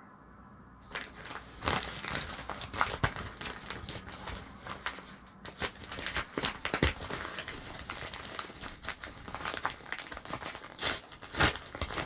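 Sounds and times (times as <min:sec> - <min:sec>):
paper bag crinkling: 0:00.9 - 0:12.0.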